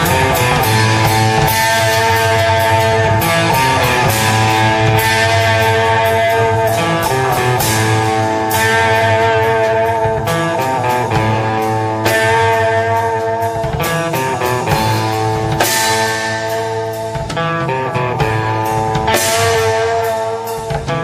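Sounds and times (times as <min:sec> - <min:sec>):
bass and drums: 0:00.0 - 0:21.0
electric guitar notes: 0:00.0 - 0:21.0.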